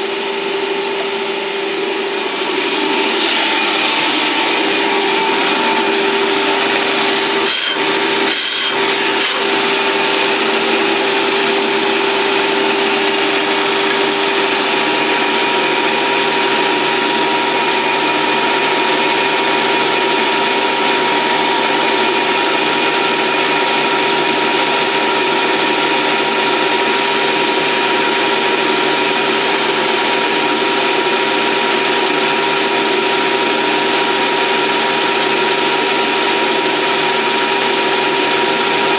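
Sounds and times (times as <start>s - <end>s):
lathe gearbox whirring: 0.2s - 38.9s.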